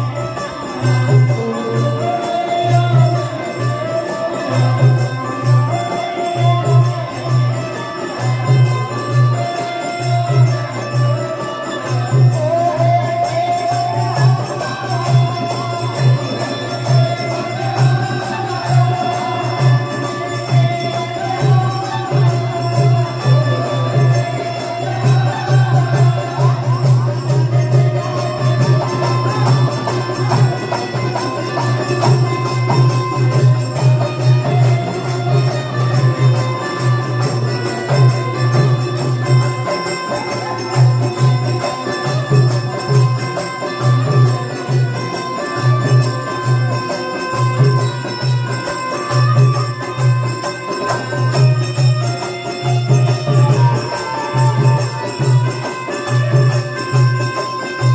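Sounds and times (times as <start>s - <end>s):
devotional folk music: 0.0s - 57.9s.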